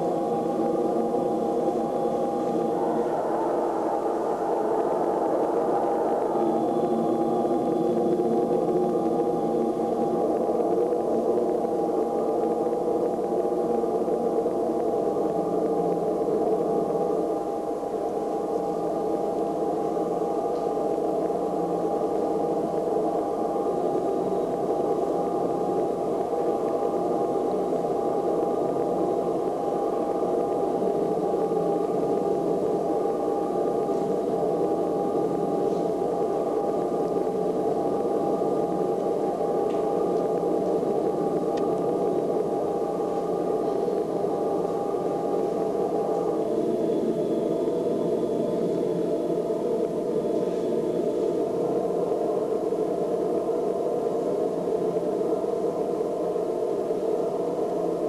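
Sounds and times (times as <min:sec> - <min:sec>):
electronic noise drone: 0:00.0 - 0:58.0.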